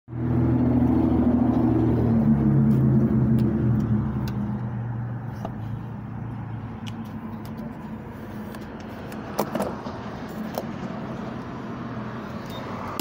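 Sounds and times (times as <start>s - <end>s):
car engine humming: 0.1s - 13.0s.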